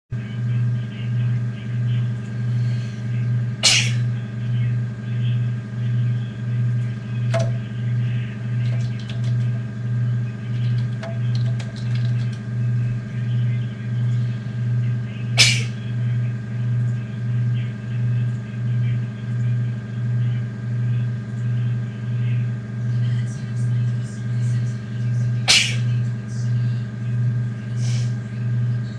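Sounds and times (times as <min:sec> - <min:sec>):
low electrical hum: 0:00.1 - 0:28.9.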